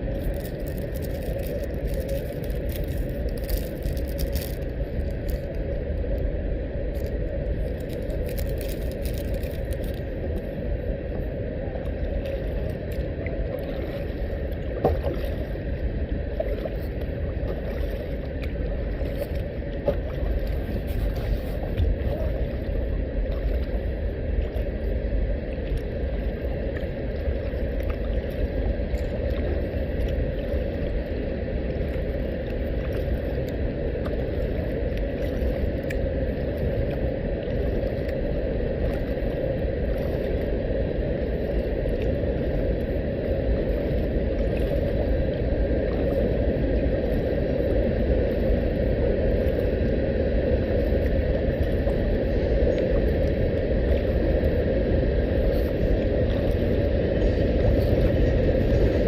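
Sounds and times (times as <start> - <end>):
low rumble and water noise: 0.0 - 59.0.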